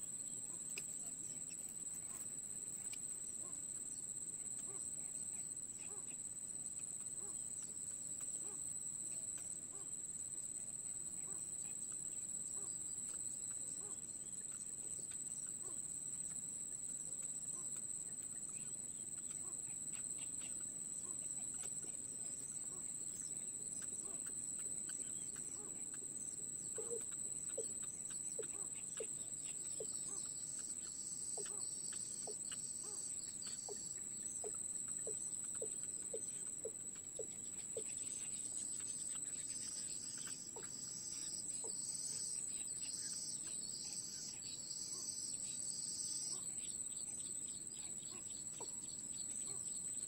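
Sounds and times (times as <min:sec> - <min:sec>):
insects buzzing: 0:00.0 - 0:50.0.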